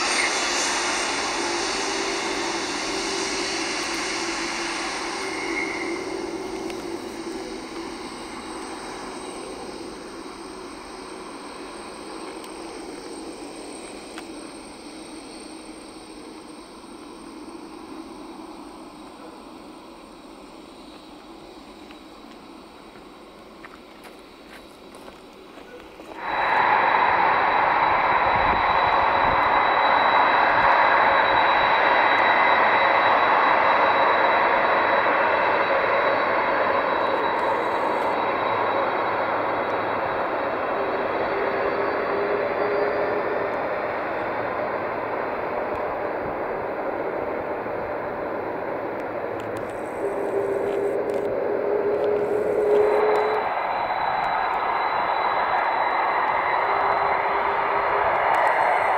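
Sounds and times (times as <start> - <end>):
high jet whine: 0.0 - 58.9
jet engines roaring: 0.0 - 58.9.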